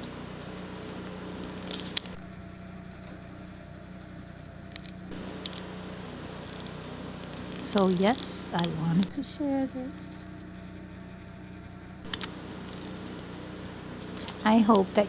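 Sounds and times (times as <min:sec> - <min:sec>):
distant snowblower engine running: 0:00.0 - 0:15.0.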